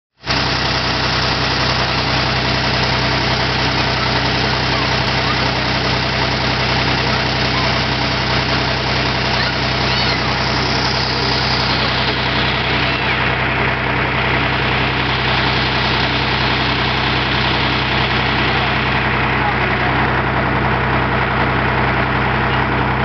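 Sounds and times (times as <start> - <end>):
dozer engine idling: 0.2 - 23.0.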